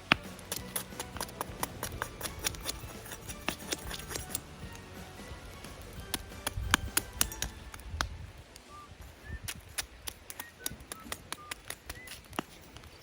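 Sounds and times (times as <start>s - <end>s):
campfire crackling: 0.0s - 13.0s
high chirping sounds: 0.0s - 13.0s.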